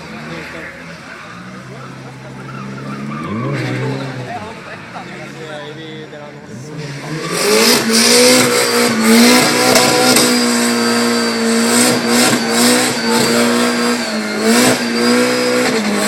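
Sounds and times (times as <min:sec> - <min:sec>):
tyres spinning and squealing: 0:00.0 - 0:05.4, 0:06.4 - 0:16.0
car engine at high revs: 0:00.0 - 0:16.0.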